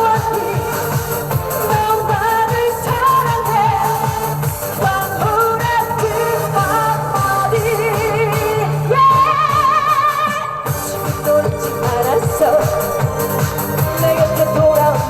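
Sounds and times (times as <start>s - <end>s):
backing track with steady beat: 0.0s - 15.0s
woman singing: 0.0s - 15.0s.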